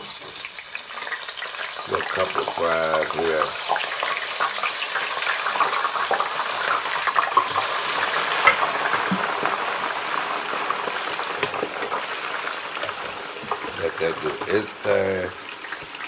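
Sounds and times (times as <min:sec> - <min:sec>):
fries sizzling in hot oil: 0:00.0 - 0:16.0.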